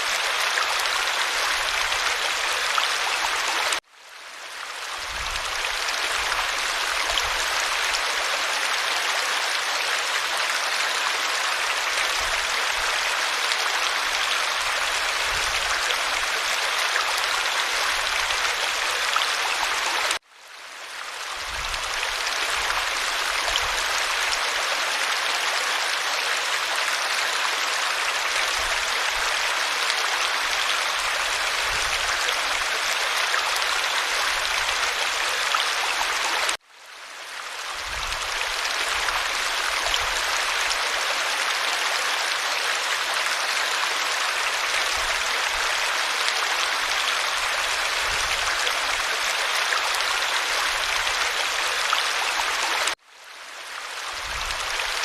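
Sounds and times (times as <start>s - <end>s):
stream rushing and gurgling: 0.0s - 55.0s.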